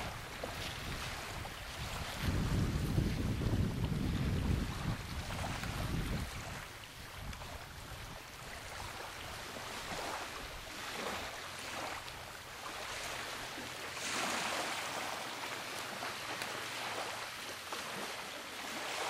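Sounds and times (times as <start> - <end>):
small waves washing on shore: 0.0 - 19.0
wind: 0.0 - 19.0.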